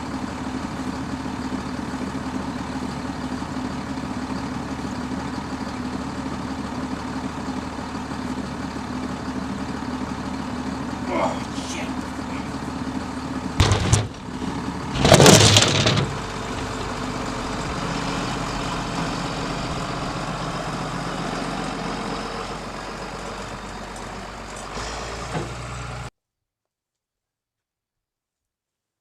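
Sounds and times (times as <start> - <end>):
engine running: 0.0 - 26.1.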